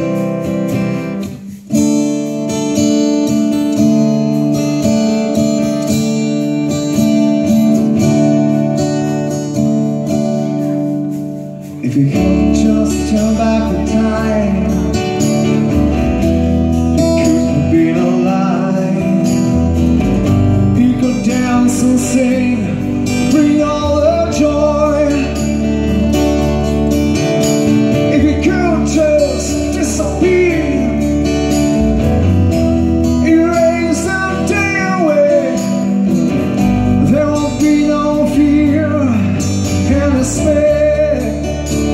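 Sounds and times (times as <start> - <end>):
acoustic guitars strumming: 0.0 - 41.9
rock band playing: 0.0 - 41.9.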